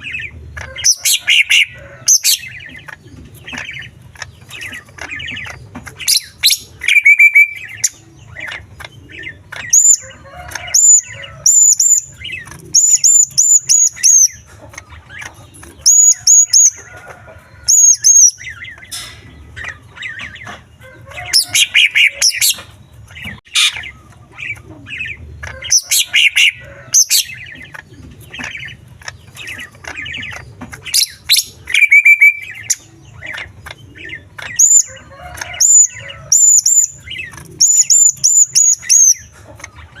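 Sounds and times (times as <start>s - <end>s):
bird singing varied song: 0.0s - 40.0s.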